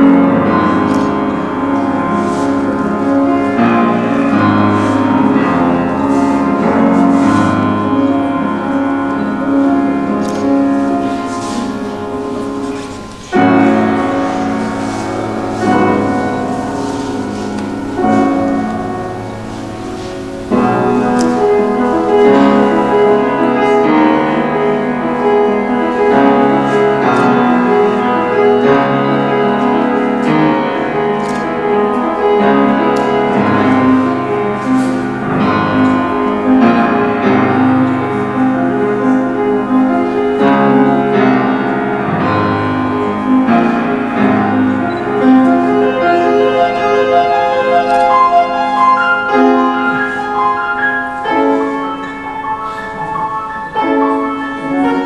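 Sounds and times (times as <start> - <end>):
struck-string instrument melody: 0.0 - 55.0.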